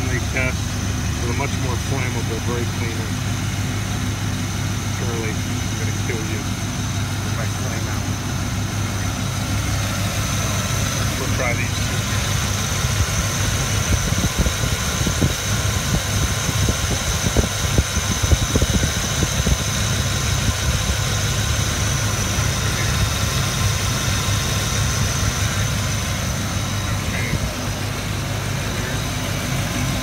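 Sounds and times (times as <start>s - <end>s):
car engine idling: 0.0s - 30.0s
high-pitched whine: 4.9s - 30.0s.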